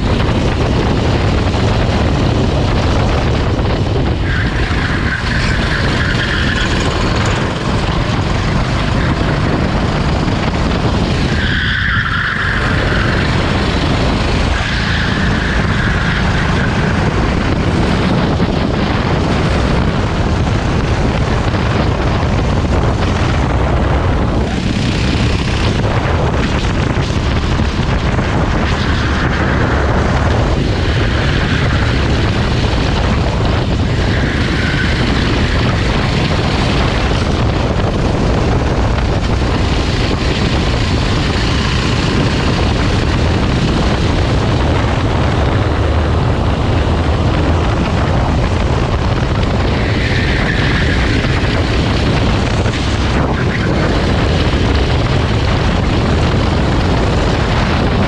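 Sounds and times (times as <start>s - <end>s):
kart engine: 0.0s - 58.0s
wind buffeting microphone: 0.0s - 58.0s.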